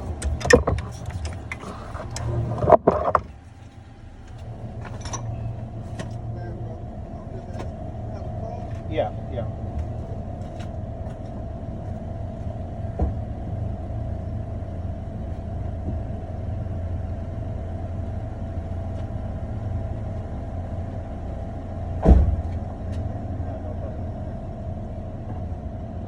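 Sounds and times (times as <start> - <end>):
low mechanical rumble: 0.0 - 26.0
mid-pitched hum: 0.0 - 26.0.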